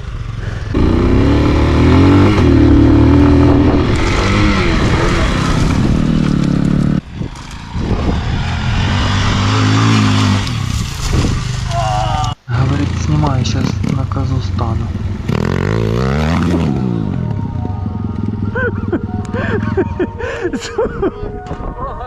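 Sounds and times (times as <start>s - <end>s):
dirt bike engine revving: 0.0s - 11.7s, 12.5s - 19.7s.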